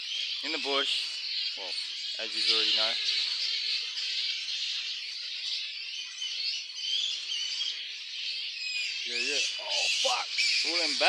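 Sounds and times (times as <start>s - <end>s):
flying foxes squeaking and chirping: 0.0s - 11.0s.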